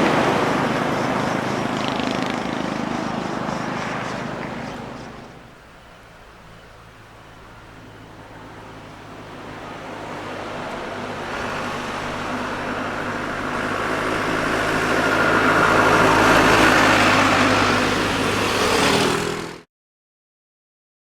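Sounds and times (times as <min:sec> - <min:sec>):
motorcycle engine and exhaust: 0:00.0 - 0:19.7.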